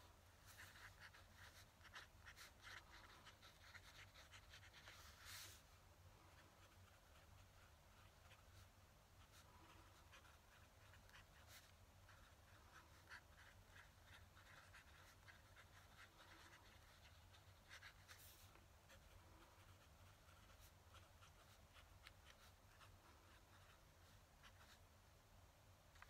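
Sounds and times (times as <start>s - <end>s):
pen nib scratching on paper: 0.4s - 5.5s, 6.2s - 24.8s.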